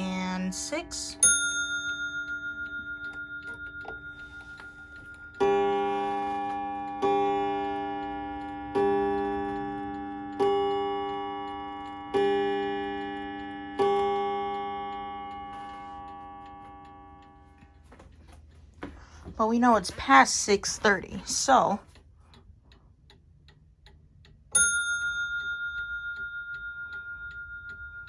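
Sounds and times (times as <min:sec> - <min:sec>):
mantel clock striking: 0:00.0 - 0:22.0, 0:23.8 - 0:28.0.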